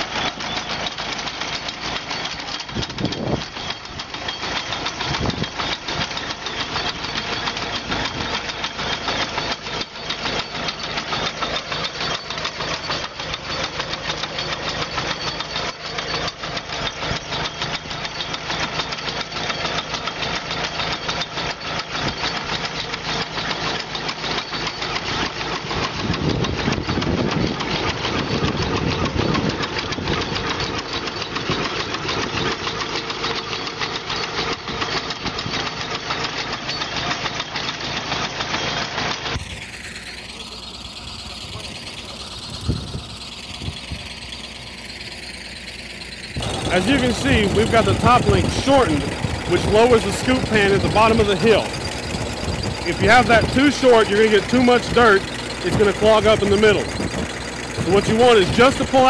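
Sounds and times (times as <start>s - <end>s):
potato digger clattering: 0.0s - 59.0s
tractor engine running: 0.0s - 59.0s.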